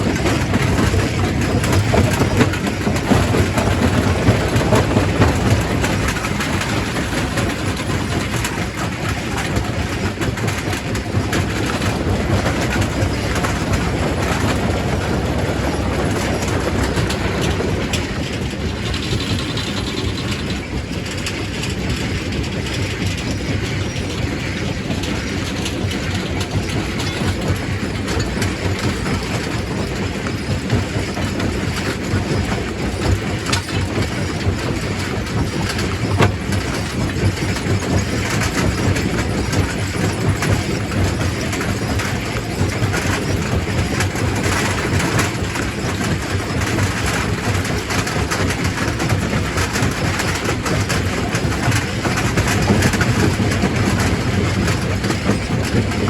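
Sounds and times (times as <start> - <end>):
rock crusher rumbling: 0.0 - 24.0, 25.0 - 56.0.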